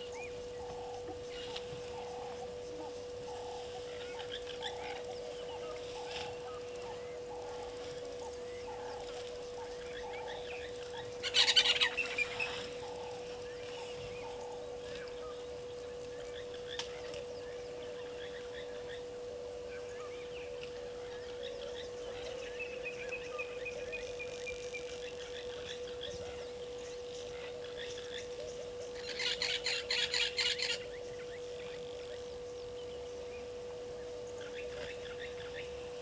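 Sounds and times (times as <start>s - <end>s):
birds chirping: 0.0s - 36.0s
steady humming tone: 0.0s - 36.0s.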